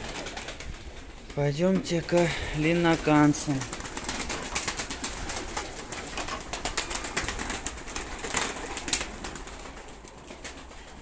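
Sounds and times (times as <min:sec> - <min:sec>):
pigeons flapping wings: 0:00.0 - 0:11.0.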